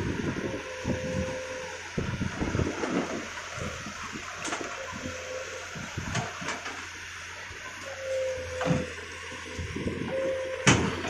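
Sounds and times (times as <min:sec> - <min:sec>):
excavator bucket dragging through mud: 0:00.0 - 0:11.0
excavator machine noise: 0:00.0 - 0:11.0.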